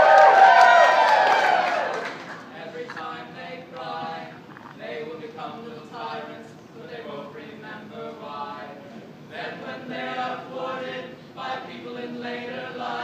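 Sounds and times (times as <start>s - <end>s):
group of voices singing unaccompanied: 2.5s - 13.0s.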